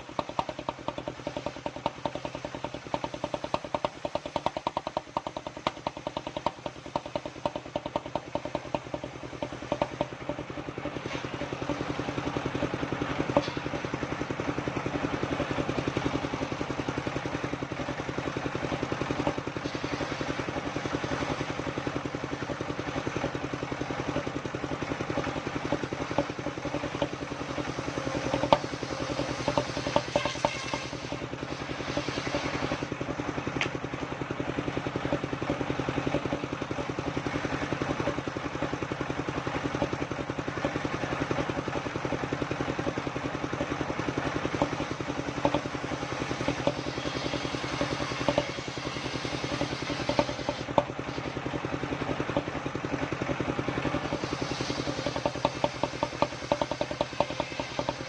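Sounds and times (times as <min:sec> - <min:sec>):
sawmill engine running: 0:00.0 - 0:58.0
sharp knocks and clatter: 0:00.0 - 0:58.0.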